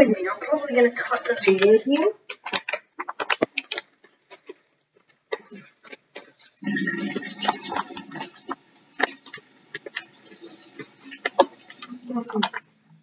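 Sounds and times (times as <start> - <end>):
plastic bag crinkling: 0.0 - 12.9
sharp crackles and clicks: 0.0 - 13.0.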